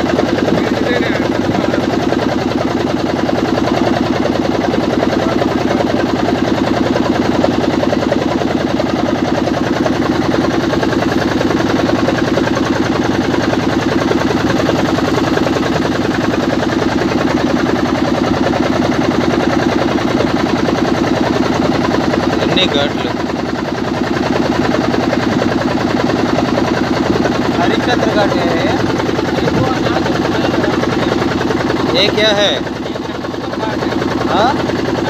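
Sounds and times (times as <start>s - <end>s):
motorboat engine chugging: 0.0s - 35.0s.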